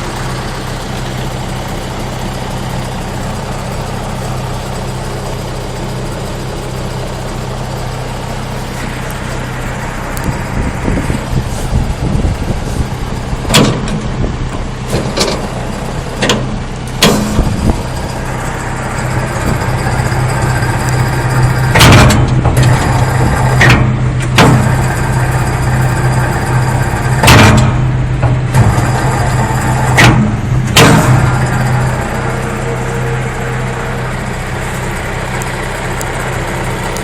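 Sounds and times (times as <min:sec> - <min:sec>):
wood chipper running: 0:00.0 - 0:37.0.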